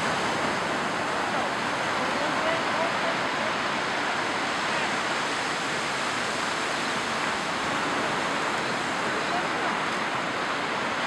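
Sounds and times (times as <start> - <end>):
surf washing onto shore: 0.0 - 11.0.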